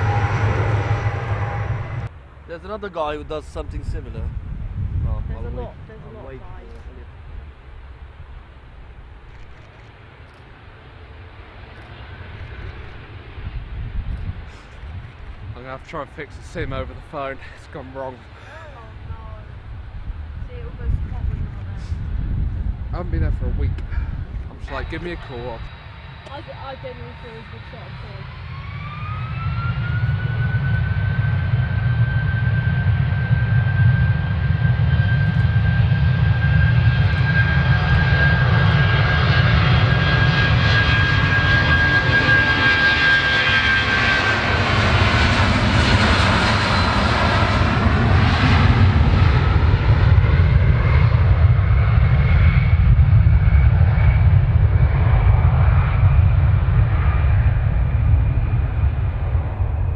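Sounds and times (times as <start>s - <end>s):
deep jet rumble: 0.0s - 59.9s
jet engine whine: 0.0s - 59.9s.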